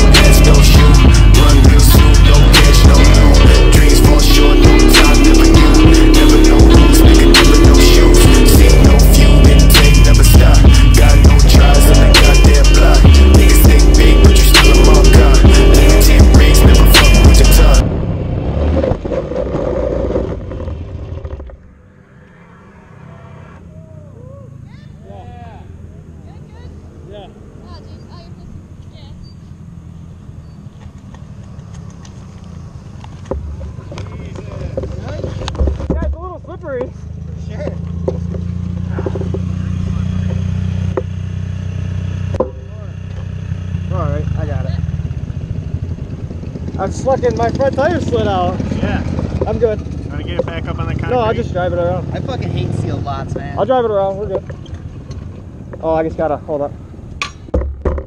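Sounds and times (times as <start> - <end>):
vehicle engine revving: 0.0 - 57.2.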